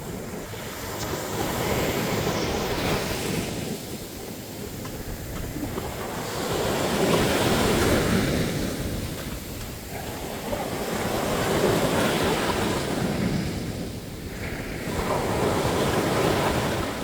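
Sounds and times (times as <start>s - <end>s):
sea waves breaking on a beach: 0.0s - 17.0s.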